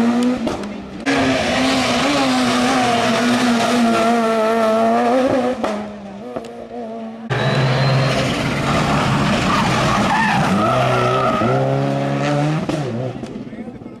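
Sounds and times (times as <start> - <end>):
rally car engine passing: 0.0 - 13.5
distant rally car: 0.0 - 14.0.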